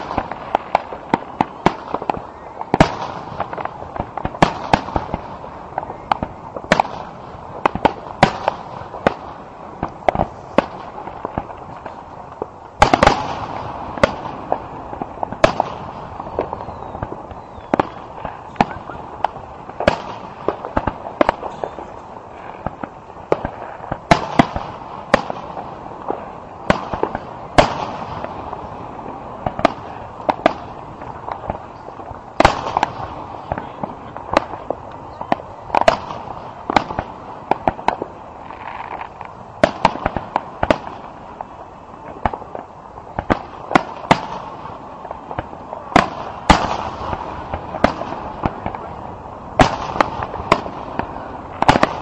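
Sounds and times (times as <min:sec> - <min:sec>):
fireworks booming and popping: 0:00.0 - 0:52.0.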